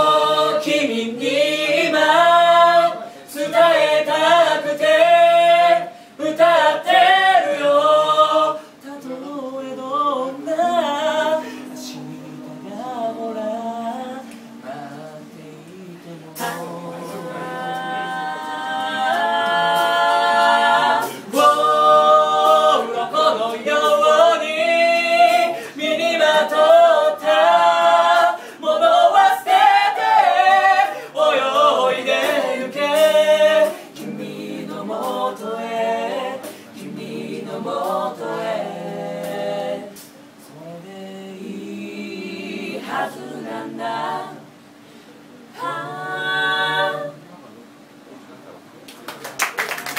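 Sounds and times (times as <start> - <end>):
a cappella group singing in harmony: 0.0 - 47.7.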